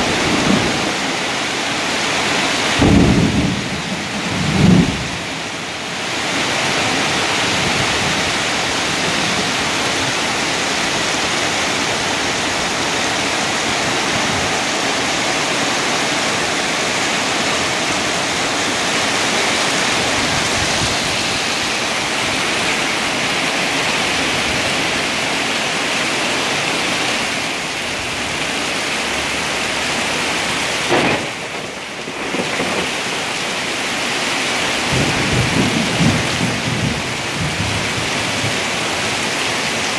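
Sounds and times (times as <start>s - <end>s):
heavy rain on leaves and pavement: 0.0s - 39.9s.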